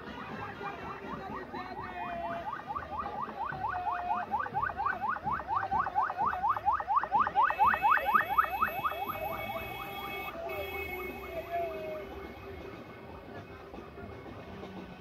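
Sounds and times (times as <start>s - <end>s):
ambulance siren yelping: 0.0s - 12.8s.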